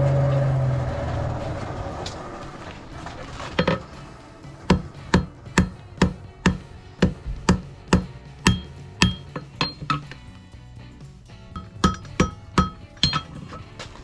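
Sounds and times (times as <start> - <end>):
hammer blows on hot steel: 0.0 - 10.3, 11.4 - 14.0.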